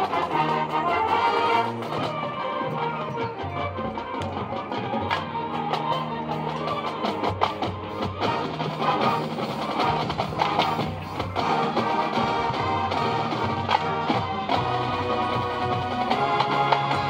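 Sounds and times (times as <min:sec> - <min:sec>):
brass holding chords: 0:00.0 - 0:17.0.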